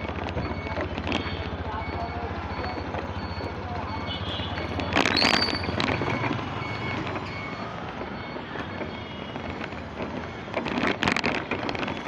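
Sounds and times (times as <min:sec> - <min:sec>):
passing vehicles: 0:00.0 - 0:12.0.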